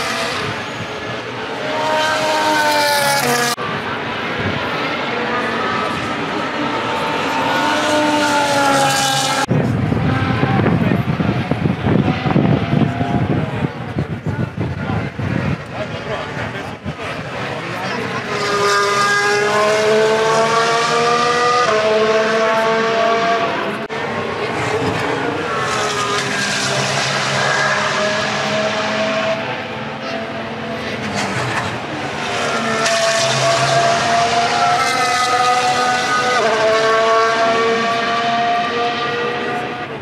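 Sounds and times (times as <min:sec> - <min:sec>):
racing car engines accelerating past: 0:00.0 - 0:14.1, 0:15.4 - 0:40.0.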